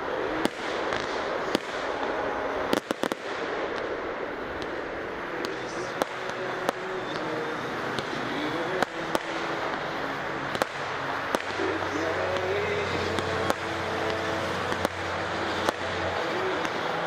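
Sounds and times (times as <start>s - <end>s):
fireworks bangs: 0.0s - 17.0s
fireworks crackling: 0.0s - 17.0s
people's voices: 0.0s - 17.0s.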